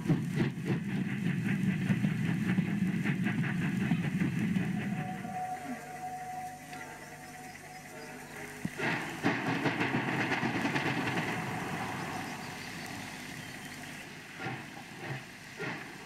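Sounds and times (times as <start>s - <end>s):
rail noise: 0.0s - 16.0s
steam hiss: 0.0s - 16.0s
steam locomotive exhaust puffs: 0.0s - 16.0s.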